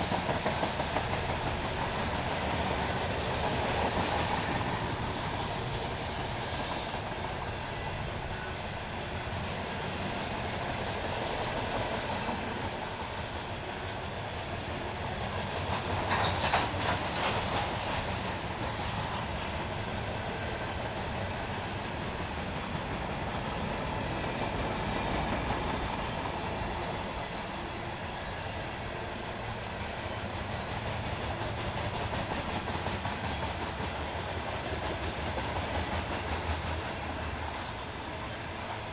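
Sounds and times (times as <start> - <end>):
freight train cars clickety-clack: 0.0 - 38.9
train cars clanking: 0.0 - 38.9.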